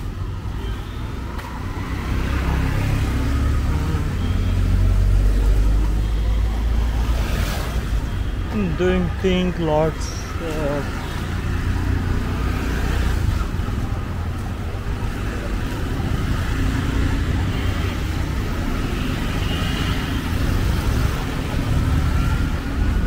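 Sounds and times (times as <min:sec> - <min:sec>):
vehicle engines rumbling: 0:00.0 - 0:23.0.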